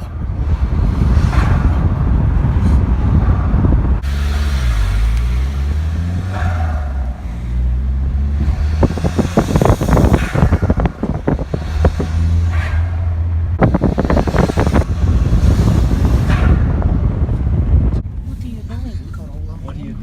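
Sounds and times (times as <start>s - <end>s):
car engine under load: 0.0s - 20.0s.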